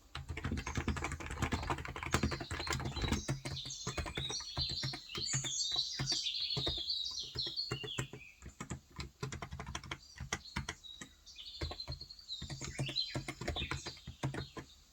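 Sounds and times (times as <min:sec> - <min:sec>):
keyboard typing: 0:00.0 - 0:14.7
small birds chirping: 0:00.0 - 0:14.9.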